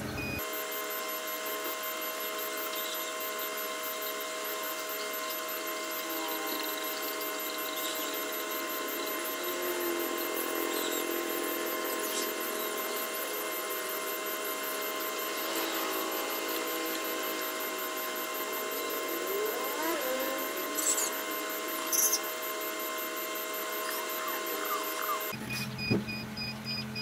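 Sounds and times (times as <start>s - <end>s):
short rising and falling whine: 0.0s - 26.2s
machine hum with fixed tones: 0.0s - 27.0s.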